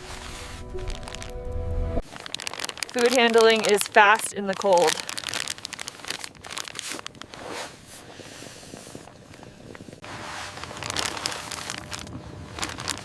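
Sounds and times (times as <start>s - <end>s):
packaging rustling: 0.0s - 8.0s, 9.7s - 13.0s.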